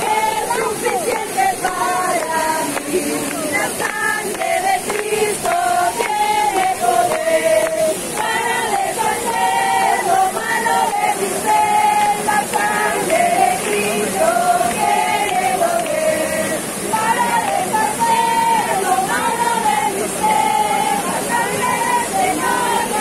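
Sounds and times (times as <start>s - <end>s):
group singing together: 0.0s - 23.0s
waterfall rushing: 0.0s - 23.0s.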